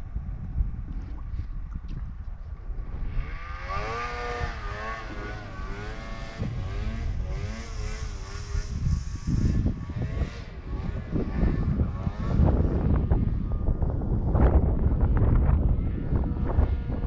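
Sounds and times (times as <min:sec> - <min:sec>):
snowmobile engine whine: 0:02.6 - 0:17.0.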